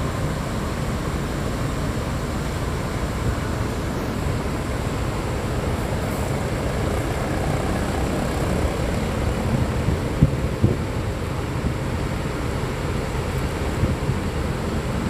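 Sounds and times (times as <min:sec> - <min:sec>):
diesel engine low rumble: 0:00.0 - 0:15.0.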